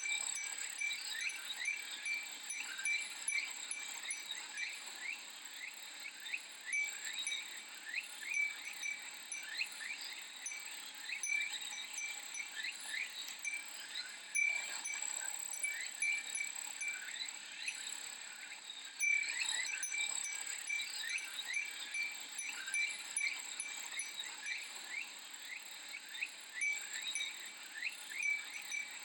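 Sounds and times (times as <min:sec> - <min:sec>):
wind chime tinkling: 0:00.0 - 0:05.1, 0:06.6 - 0:18.0, 0:19.0 - 0:25.0, 0:26.5 - 0:29.0.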